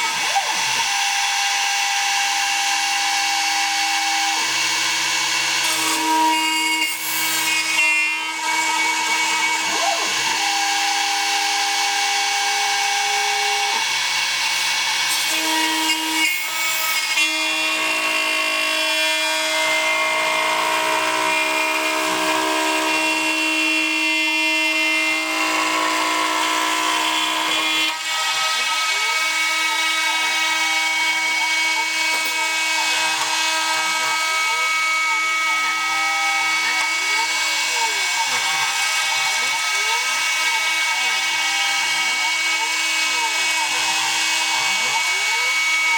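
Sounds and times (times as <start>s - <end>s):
router spindle whine with cutting: 0.0s - 45.9s.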